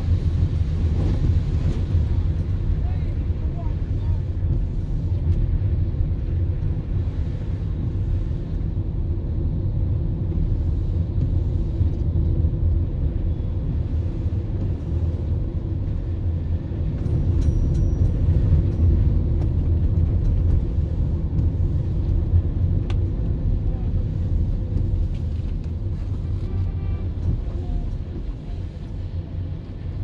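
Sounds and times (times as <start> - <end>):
car driving on wet road: 0.0 - 30.0.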